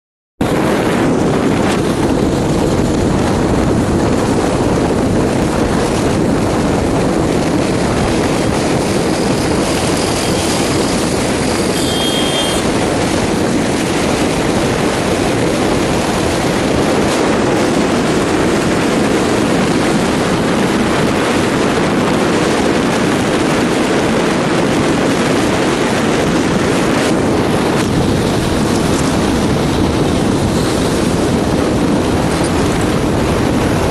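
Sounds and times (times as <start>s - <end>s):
vehicle road and wind noise: 0.4s - 33.9s.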